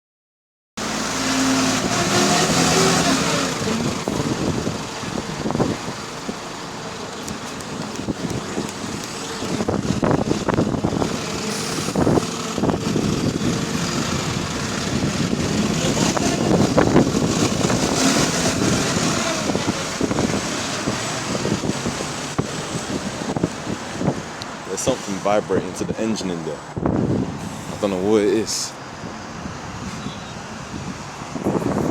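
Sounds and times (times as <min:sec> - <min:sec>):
bus engine running: 0:00.8 - 0:31.9.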